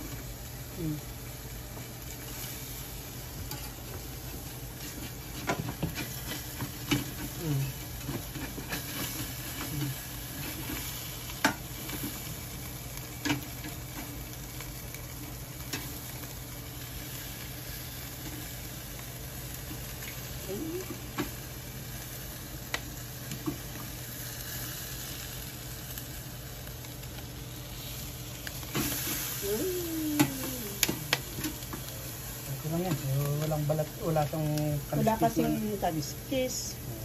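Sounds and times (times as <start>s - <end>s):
fish sizzling on a grill: 0.0s - 37.0s.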